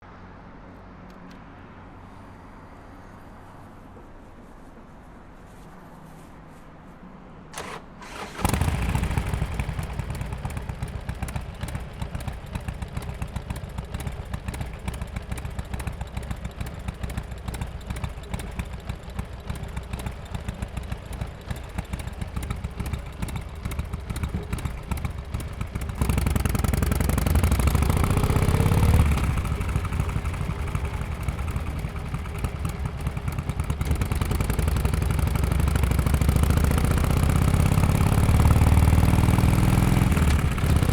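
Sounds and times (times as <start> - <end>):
motorcycle engine idling: 7.6 - 40.9.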